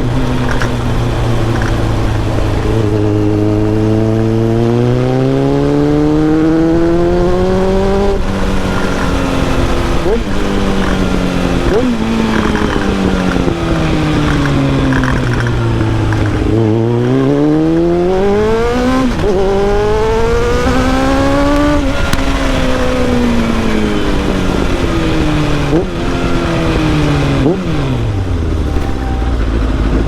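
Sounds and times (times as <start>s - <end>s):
motorcycle engine revving: 0.0s - 30.0s
rush of wind: 0.0s - 30.0s.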